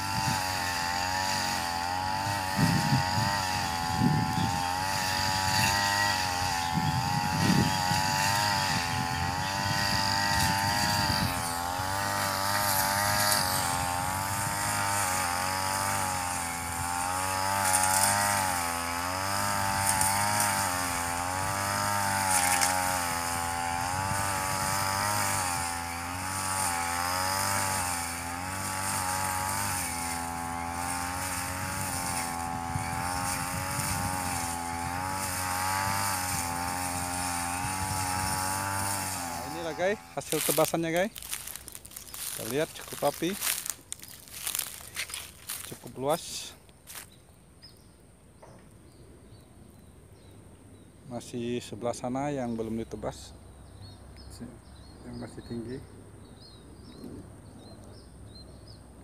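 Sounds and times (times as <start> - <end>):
brush cutter engine cutting grass: 0.0 - 47.8, 51.0 - 58.7.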